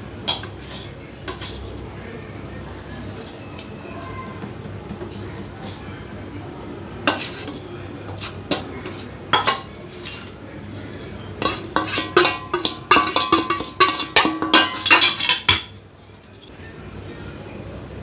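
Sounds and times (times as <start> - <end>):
metal utensils clattering on cookware: 0.1 - 16.5.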